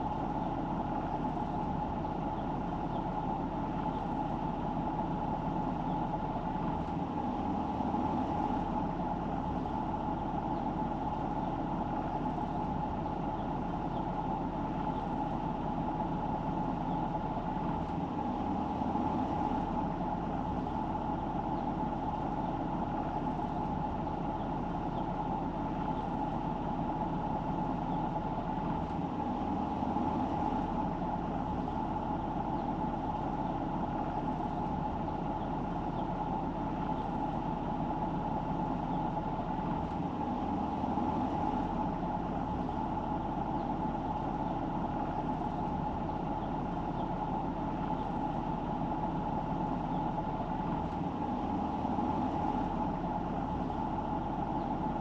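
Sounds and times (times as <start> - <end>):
car engine and tyre hum: 0.0 - 55.0.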